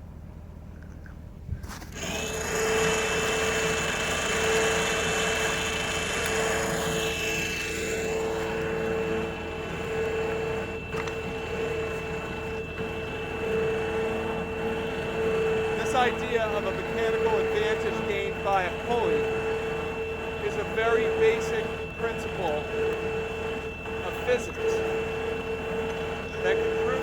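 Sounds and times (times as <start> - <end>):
winch motor whining: 0.8 - 27.0.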